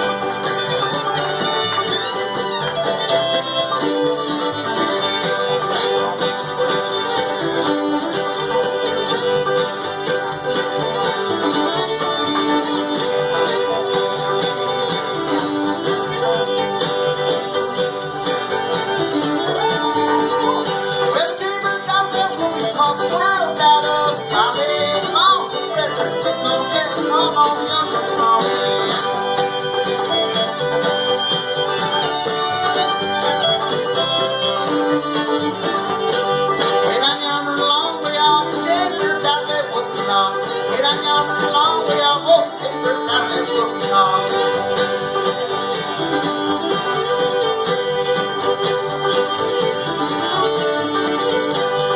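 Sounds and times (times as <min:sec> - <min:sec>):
band playing fiddle tune: 0:00.0 - 0:51.9.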